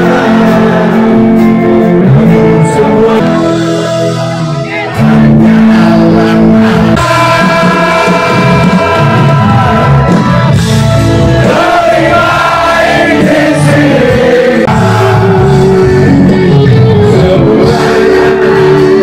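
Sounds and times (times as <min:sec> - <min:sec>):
man singing: 0:00.0 - 0:10.4, 0:11.4 - 0:19.0
live rock band playing: 0:00.0 - 0:19.0.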